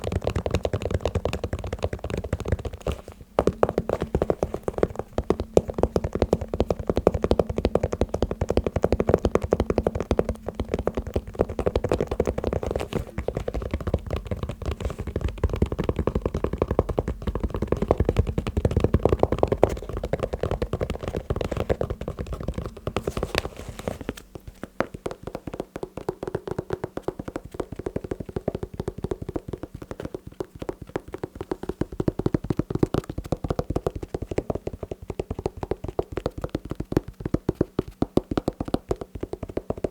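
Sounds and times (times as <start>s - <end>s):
fast tapping on shoes: 0.0s - 39.9s.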